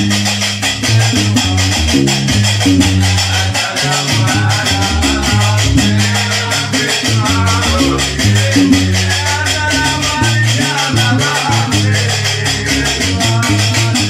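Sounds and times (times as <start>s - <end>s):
plucked bass lute: 0.0s - 14.0s.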